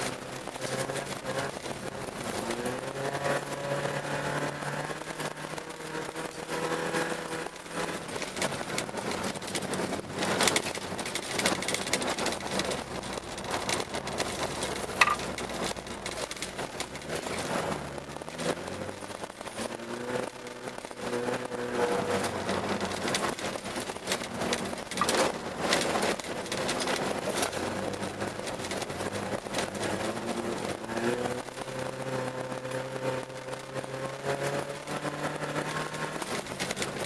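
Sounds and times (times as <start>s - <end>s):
car engine from inside cabin: 0.0s - 37.0s
crackling tyre and road noise: 0.0s - 37.0s.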